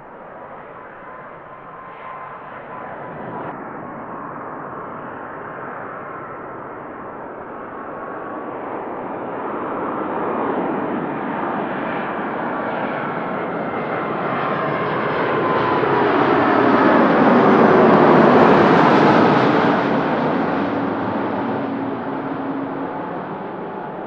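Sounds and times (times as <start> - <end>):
jet airliner engine roar: 0.0 - 24.0
jet engine whine falling in pitch: 0.0 - 24.0.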